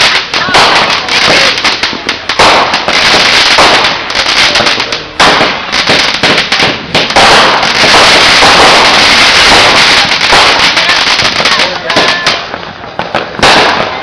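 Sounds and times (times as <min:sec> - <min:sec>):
fireworks crackling pops: 0:00.0 - 0:14.0.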